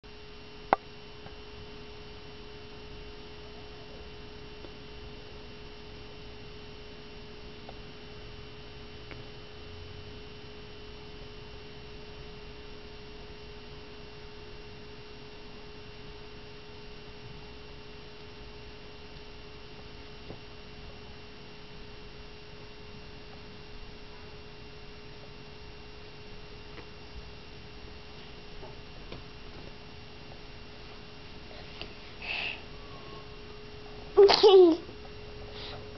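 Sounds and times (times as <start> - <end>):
electrical hum: 0.1 - 35.9.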